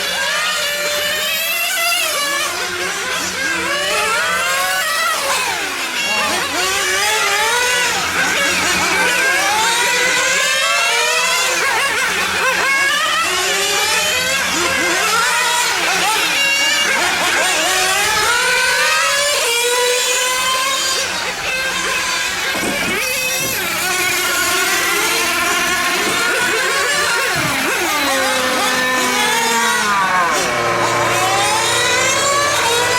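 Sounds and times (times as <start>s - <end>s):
small nitro engines whining: 0.0s - 32.9s.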